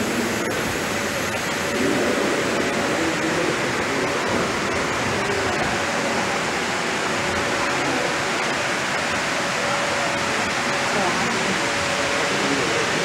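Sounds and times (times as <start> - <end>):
faint hum: 0.0 - 13.0
water rushing in fish tanks: 0.0 - 13.0.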